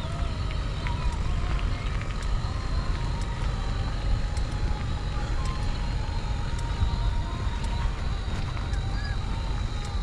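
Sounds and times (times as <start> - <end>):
wind buffeting microphone: 0.0 - 10.0
faint ticks: 0.5 - 10.0.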